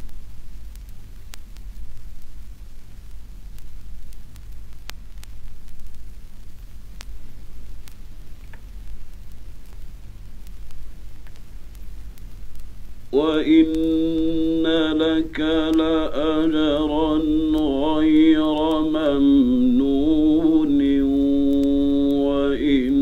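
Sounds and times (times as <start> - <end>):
recording hiss and hum: 0.0 - 23.0
sharp clicks and crackles: 0.0 - 23.0.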